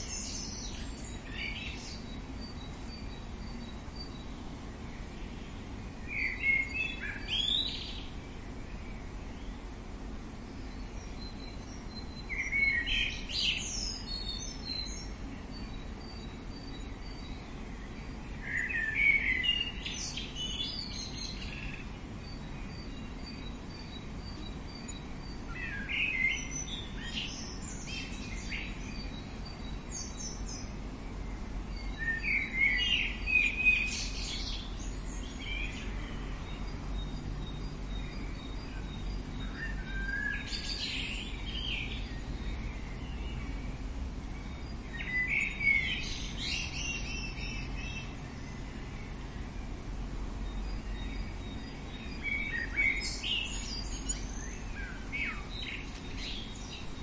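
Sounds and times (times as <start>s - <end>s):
outdoor background: 0.0s - 57.0s
songbird chirping: 0.0s - 57.0s.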